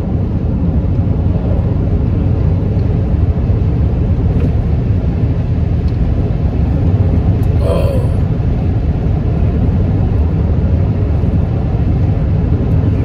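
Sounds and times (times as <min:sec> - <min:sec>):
truck cab road and engine rumble: 0:00.0 - 0:13.0.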